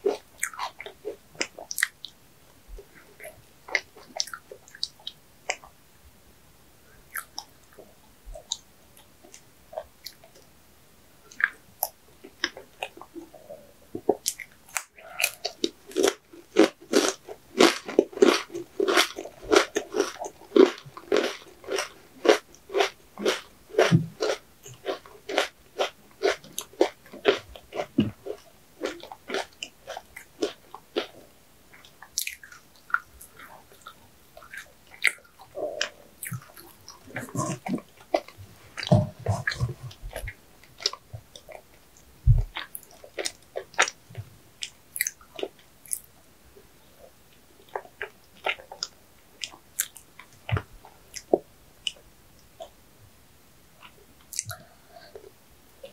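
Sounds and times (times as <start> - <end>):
close-miked chewing: 0.0 - 2.2, 2.8 - 5.8, 7.1 - 10.5, 11.3 - 46.2, 46.9 - 52.8, 53.8 - 55.9.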